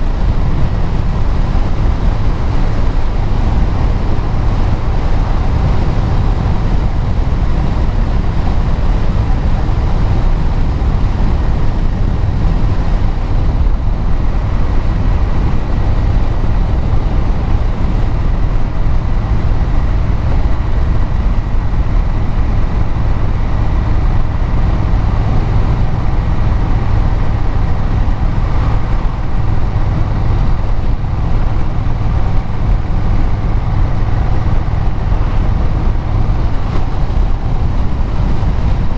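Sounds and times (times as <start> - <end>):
tyre and wind rushing: 0.0 - 38.9
vehicle engine cruising: 0.0 - 38.9.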